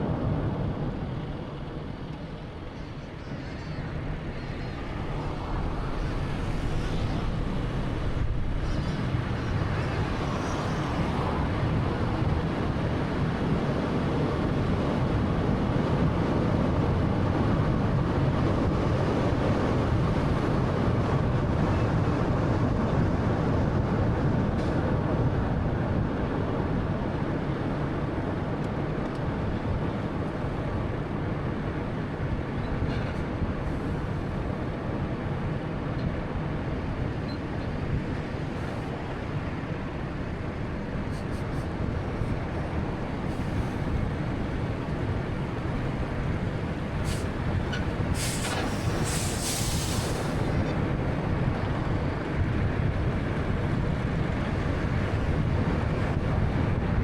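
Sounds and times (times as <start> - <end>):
car road and tyre noise: 0.0 - 57.0.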